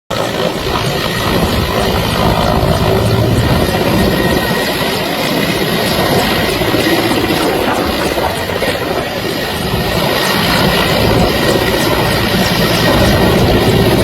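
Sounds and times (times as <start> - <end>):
helicopter rotor and engine: 0.1 - 14.0.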